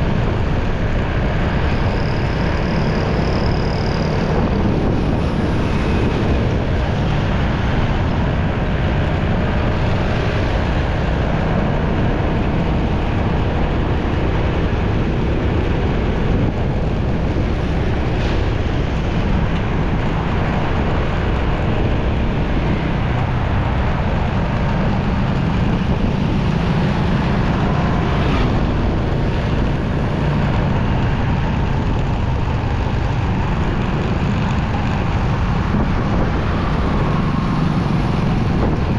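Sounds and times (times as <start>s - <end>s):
motorcycle engine rumble: 0.0s - 38.9s
surrounding traffic: 0.0s - 38.9s
wind noise on microphone: 0.0s - 38.9s.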